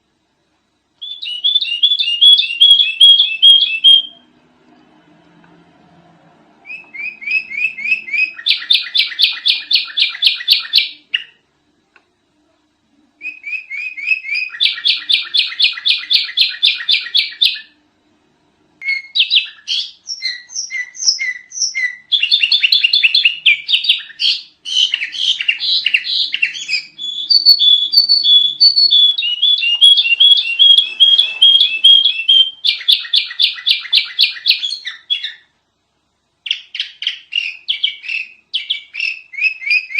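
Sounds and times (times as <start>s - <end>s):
bird chirping song: 1.0s - 4.6s, 6.5s - 11.5s, 13.2s - 17.8s, 18.8s - 35.6s, 36.4s - 39.9s.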